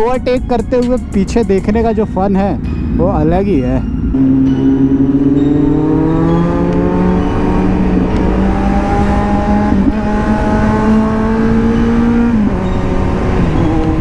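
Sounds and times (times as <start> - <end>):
heavy wind: 0.0 - 14.0
road rumble: 0.0 - 14.0
engine accelerating: 0.7 - 14.0.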